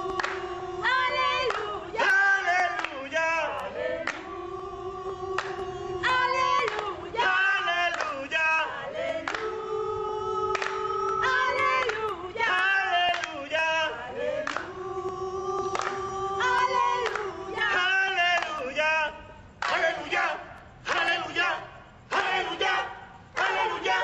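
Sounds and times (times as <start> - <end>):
mixed group singing: 0.0 - 24.0.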